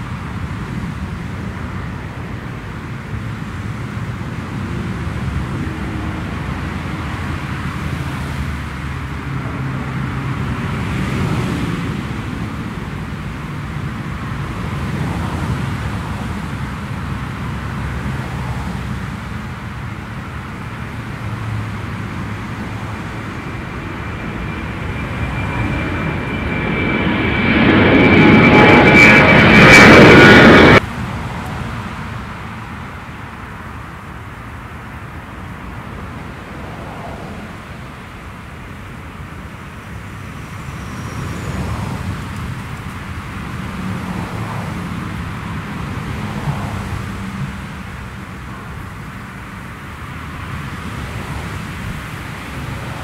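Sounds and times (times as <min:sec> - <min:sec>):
high jet fan whine: 0:00.0 - 0:53.0
jet airliner taking off: 0:00.0 - 0:53.0.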